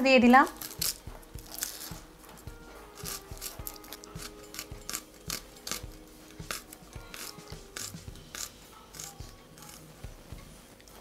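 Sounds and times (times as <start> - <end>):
onion skins crackling: 0.4 - 10.0.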